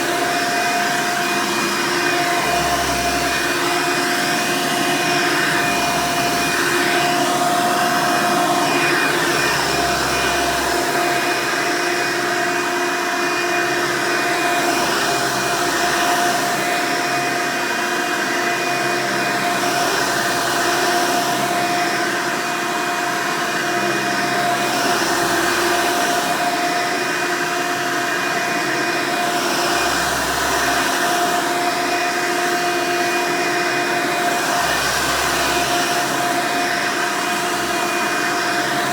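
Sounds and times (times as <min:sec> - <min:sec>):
vacuum cleaner motor roaring: 0:00.0 - 0:38.9.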